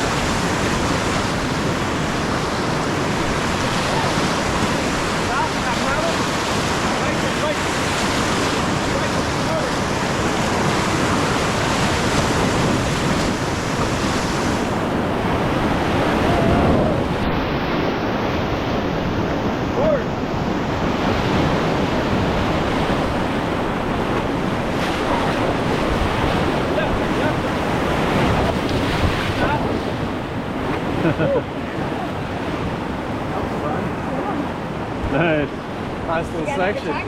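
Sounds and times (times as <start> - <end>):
whitewater rushing: 0.0 - 37.0
wind buffeting microphone: 0.0 - 37.0.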